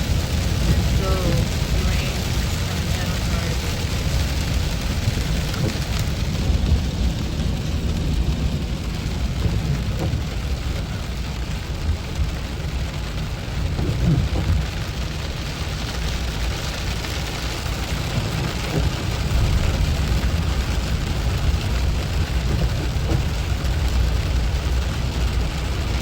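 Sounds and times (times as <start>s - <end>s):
low road rumble: 0.0s - 26.0s
rain on a car: 0.0s - 26.0s.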